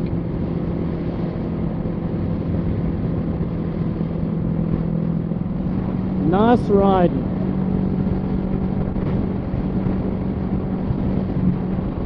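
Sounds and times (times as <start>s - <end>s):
motorcycle engine cruising: 0.0s - 12.0s
road noise: 0.0s - 12.0s
wind noise: 0.0s - 12.0s.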